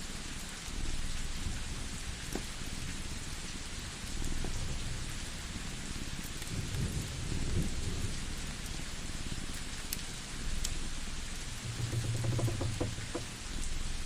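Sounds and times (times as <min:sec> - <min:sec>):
wood fire crackling: 0:00.1 - 0:14.0.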